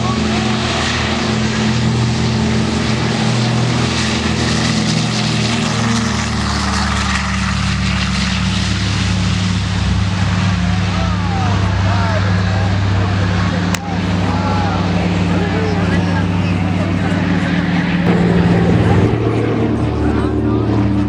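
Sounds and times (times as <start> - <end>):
propeller plane engines droning: 0.0 - 21.0.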